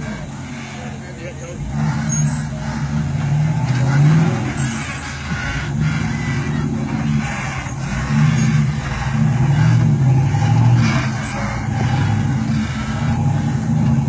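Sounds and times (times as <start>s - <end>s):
suv engine under load: 0.0s - 14.0s.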